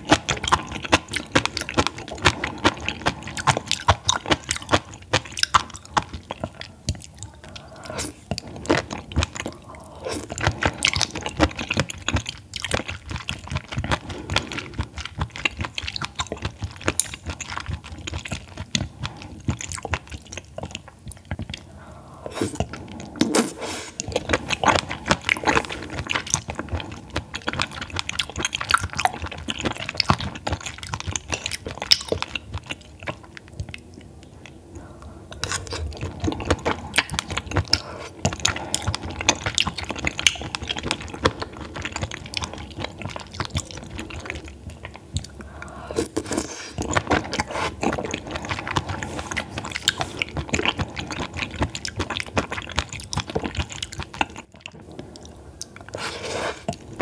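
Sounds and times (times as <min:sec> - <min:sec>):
chewing mouth clicks: 0:00.0 - 0:57.0.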